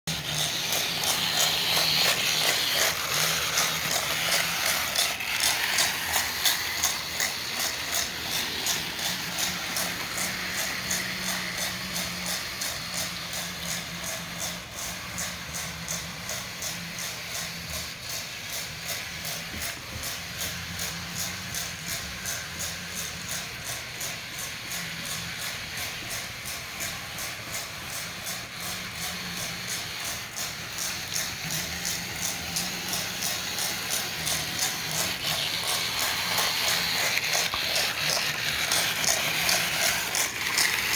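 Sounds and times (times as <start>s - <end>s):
train running: 0.1s - 40.9s.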